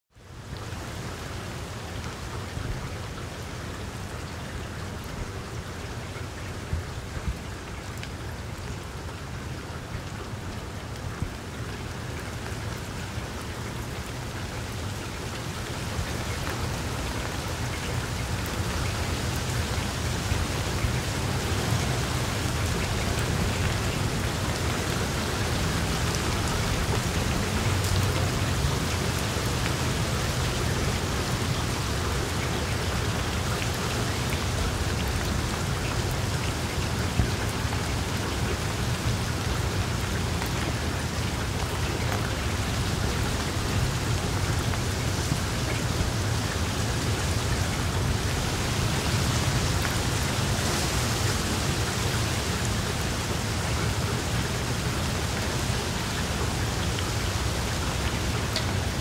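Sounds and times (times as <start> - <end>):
steady rain: 0.1 - 59.0
raindrops pattering: 0.2 - 59.0.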